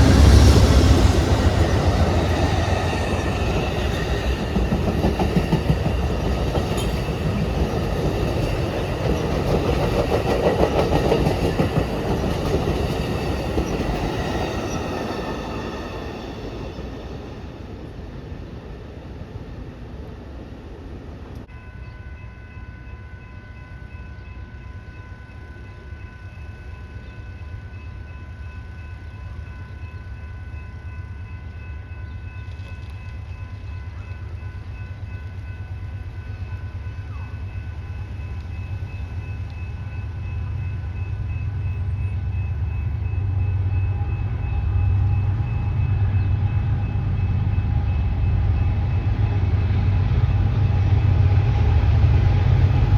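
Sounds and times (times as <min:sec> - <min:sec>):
train rumbling: 0:00.0 - 0:22.8, 0:23.8 - 0:52.9.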